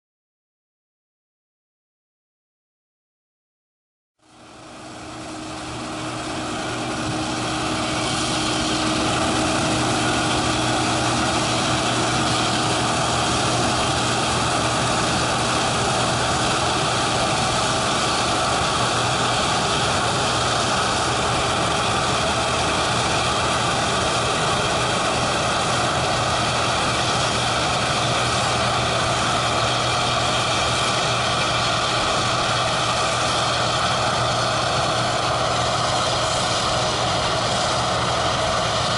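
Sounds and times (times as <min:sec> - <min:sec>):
diesel farm machine running: 0:04.2 - 0:38.9.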